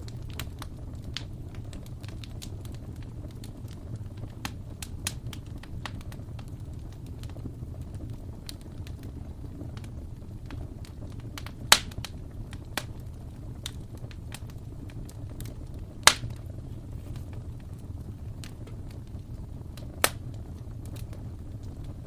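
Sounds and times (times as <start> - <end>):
loud sharp pops of fire: 0.0 - 22.0
wood fire crackling: 0.0 - 22.0.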